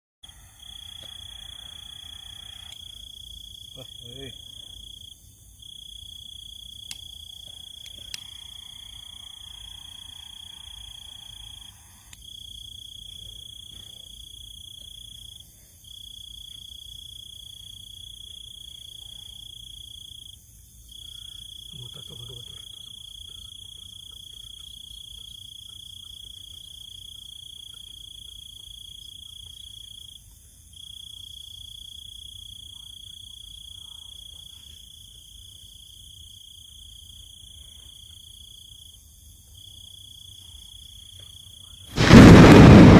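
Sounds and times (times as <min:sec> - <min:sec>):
cricket trilling: 0:00.2 - 0:42.9.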